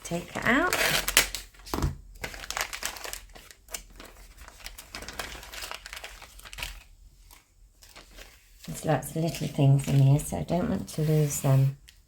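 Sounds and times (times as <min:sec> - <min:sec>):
plastic bag crinkling: 0:00.1 - 0:11.0.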